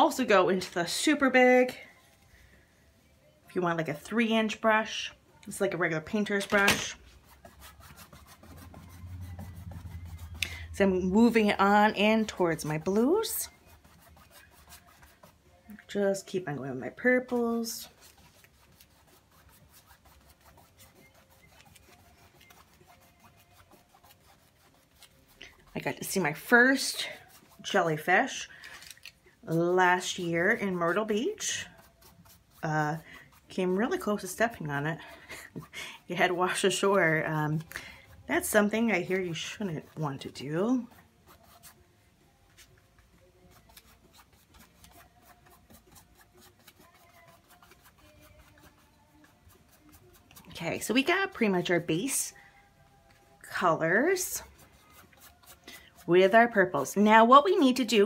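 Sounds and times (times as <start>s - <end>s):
paintbrush scratching on canvas: 5.8s - 28.4s, 29.4s - 41.8s, 42.6s - 52.3s, 53.7s - 58.0s.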